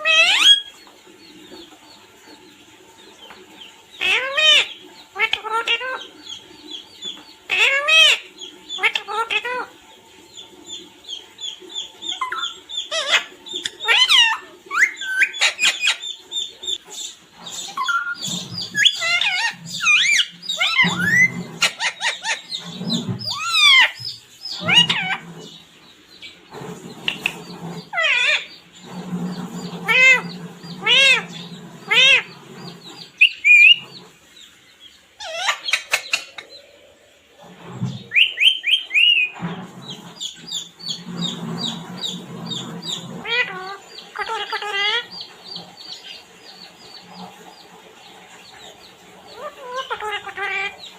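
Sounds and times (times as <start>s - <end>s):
parrot chirping and screeching: 0.0s - 0.8s, 4.0s - 9.7s, 10.7s - 25.6s, 26.2s - 34.2s, 35.2s - 36.6s, 37.5s - 47.6s, 49.3s - 50.9s.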